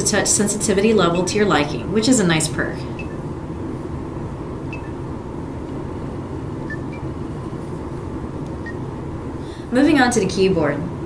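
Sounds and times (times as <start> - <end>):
room noise hum: 0.0 - 11.0.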